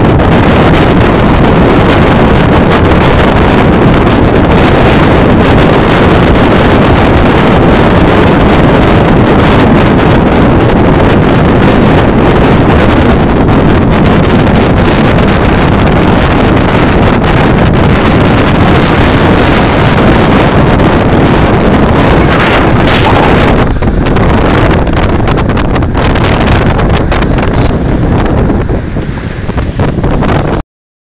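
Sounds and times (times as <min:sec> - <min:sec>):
wind buffeting microphone: 0:00.0 - 0:30.6.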